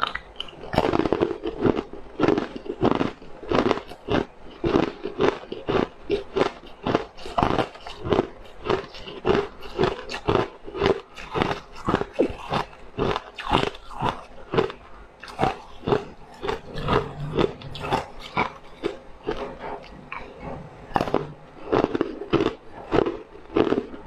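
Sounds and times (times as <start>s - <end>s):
ice being chewed crunching: 0.0s - 24.0s.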